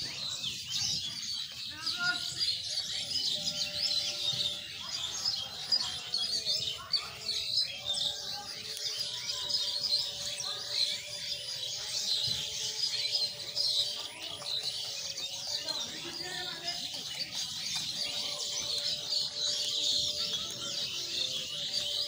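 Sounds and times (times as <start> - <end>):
songbirds chirping and twittering: 0.0 - 22.0.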